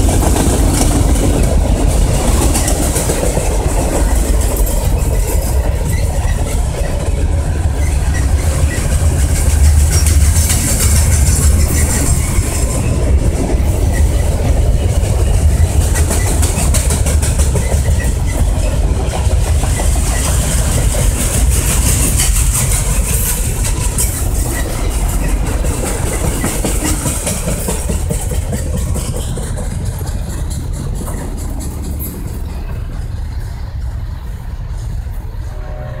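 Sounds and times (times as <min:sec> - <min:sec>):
freight train rumbling past: 0:00.0 - 0:36.0.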